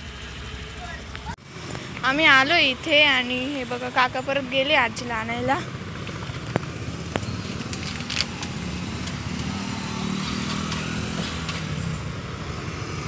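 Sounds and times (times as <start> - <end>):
low engine drone: 0.0 - 13.0
motorbikes and scooters passing: 0.0 - 13.0.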